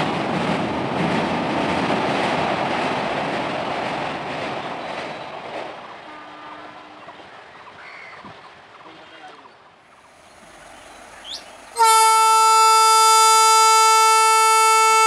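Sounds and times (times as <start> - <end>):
train wheels rumbling on bridge: 0.0 - 8.5, 9.9 - 15.0.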